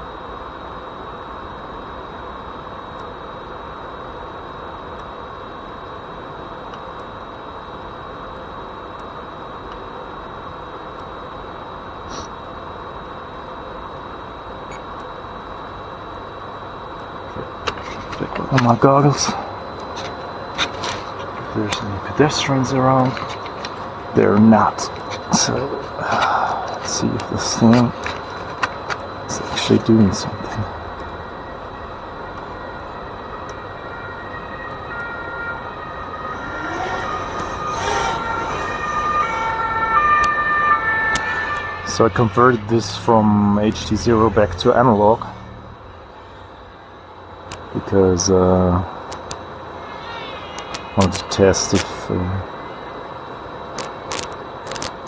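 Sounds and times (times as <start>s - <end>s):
thin high whine: 0.0s - 55.0s.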